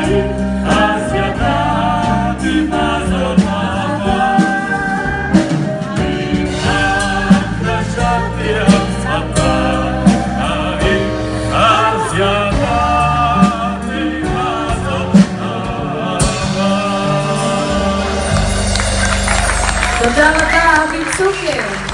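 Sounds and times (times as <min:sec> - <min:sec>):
man singing: 0:00.0 - 0:18.5
drums: 0:00.0 - 0:21.9.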